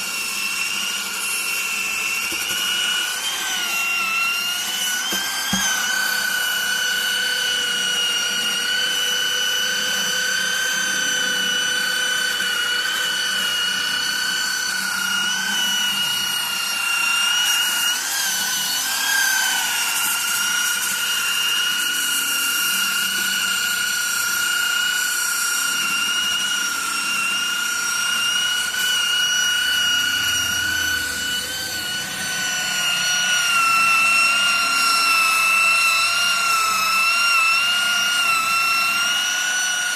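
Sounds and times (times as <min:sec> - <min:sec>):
electric sander whining: 0:00.0 - 0:39.9.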